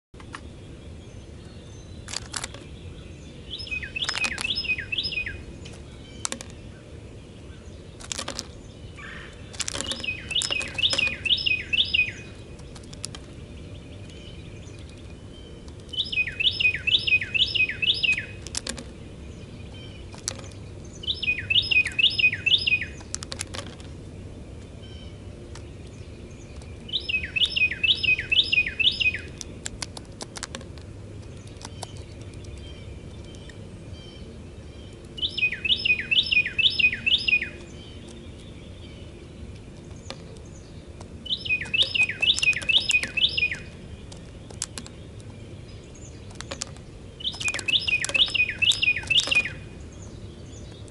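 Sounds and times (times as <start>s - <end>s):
wren singing rolling song: 0.2s - 50.9s.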